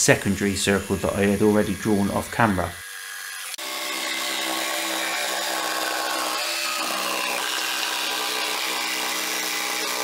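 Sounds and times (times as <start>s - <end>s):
jigsaw cutting wood: 0.1s - 10.0s.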